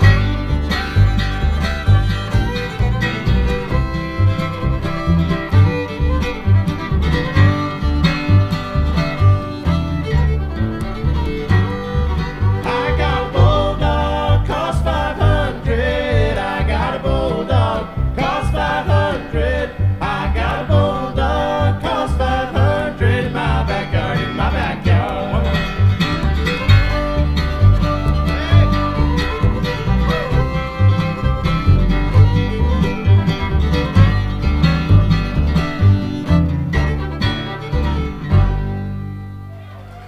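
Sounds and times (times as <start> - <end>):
plucked double bass: 0.0 - 39.5
strummed acoustic guitar: 0.0 - 39.5
fiddle: 0.0 - 40.0.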